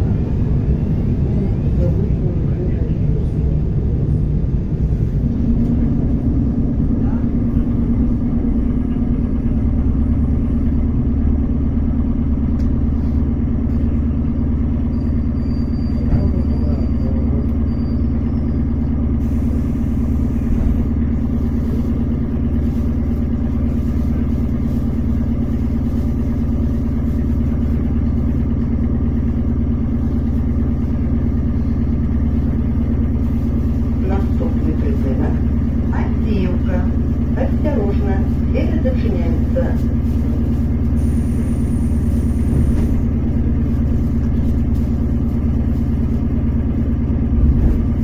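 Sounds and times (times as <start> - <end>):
electric train rumbling: 0.0 - 48.0.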